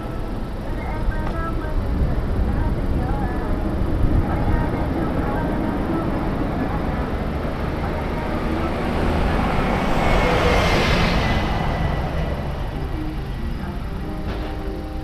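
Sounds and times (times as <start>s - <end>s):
low rumble of traffic: 0.0s - 15.0s
truck driving past: 0.0s - 15.0s.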